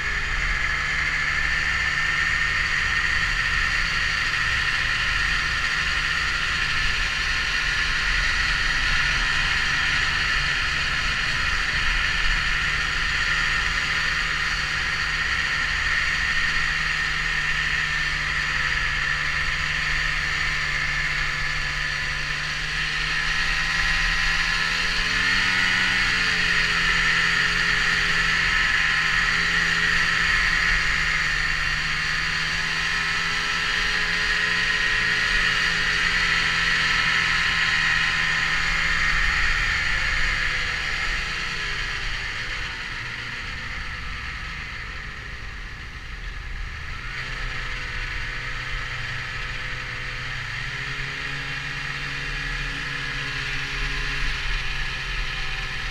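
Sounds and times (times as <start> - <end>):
high engine whine: 0.0 - 55.9
snowmobile engine running: 0.0 - 55.9.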